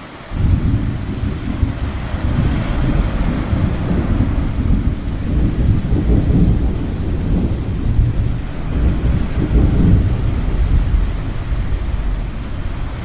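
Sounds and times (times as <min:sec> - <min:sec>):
ocean waves: 0:00.0 - 0:13.0
thunder rumbling: 0:00.0 - 0:13.0.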